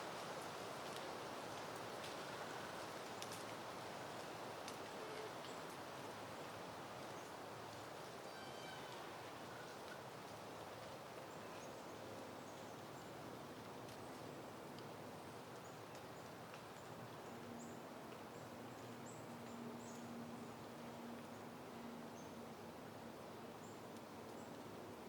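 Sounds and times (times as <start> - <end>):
rustle of leaves: 0.0 - 25.0
soft wind: 0.0 - 25.0.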